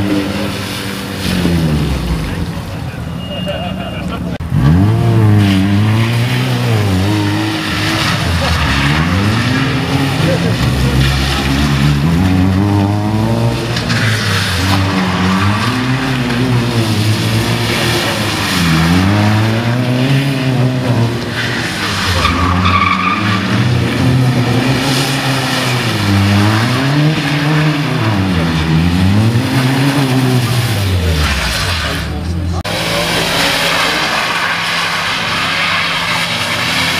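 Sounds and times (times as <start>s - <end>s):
car engine revving: 0.0s - 36.9s
tyres sliding on wet tarmac: 0.0s - 36.9s.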